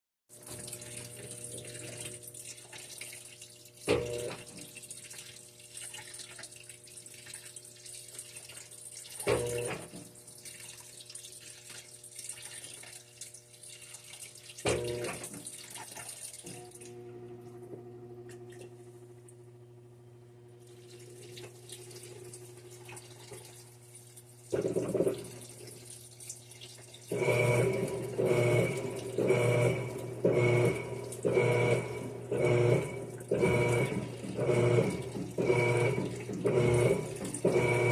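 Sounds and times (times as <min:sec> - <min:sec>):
washing machine hum: 0:00.3 - 0:37.9.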